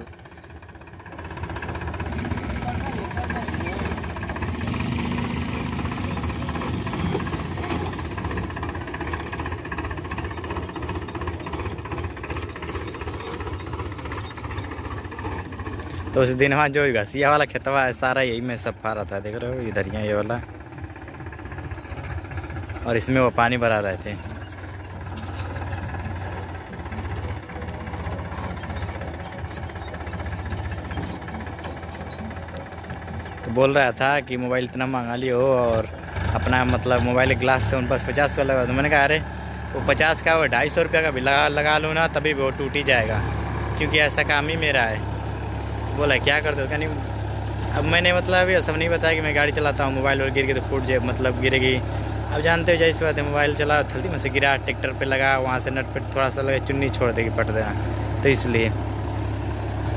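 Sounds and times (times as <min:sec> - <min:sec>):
rotavator tilling dry soil: 0:00.0 - 0:59.9
tractor diesel engine clatter: 0:00.0 - 0:59.9.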